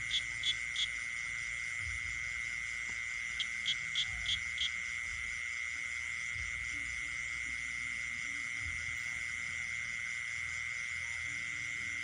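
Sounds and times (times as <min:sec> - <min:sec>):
frogs: 0:00.0 - 0:12.0
high-pitched insect drone: 0:00.0 - 0:12.0.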